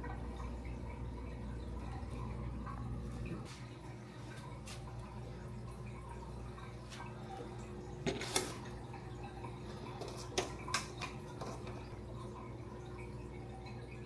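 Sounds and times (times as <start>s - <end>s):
aquarium water trickling: 0.0s - 14.0s
low hum of tank equipment: 0.0s - 14.0s.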